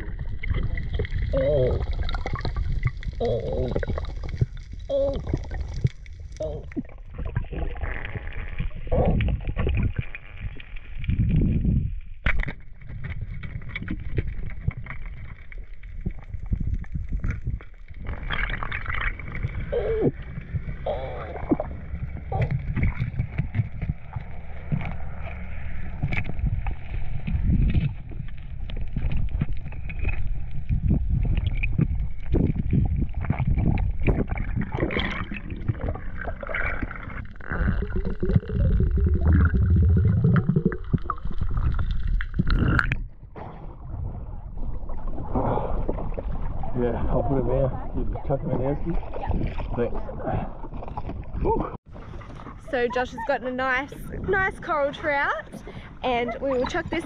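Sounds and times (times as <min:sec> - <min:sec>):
gurgling bubbles: 0:00.0 - 0:57.0
muffled underwater rumble: 0:00.0 - 0:57.0.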